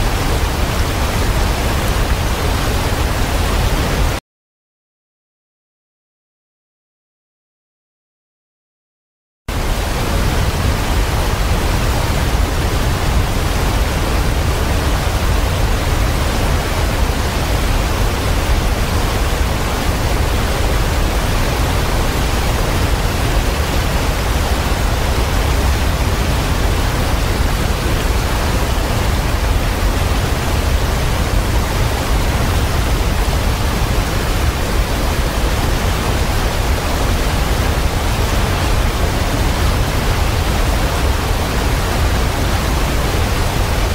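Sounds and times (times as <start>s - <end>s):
waterfall rushing: 0.0s - 4.2s, 9.5s - 43.9s.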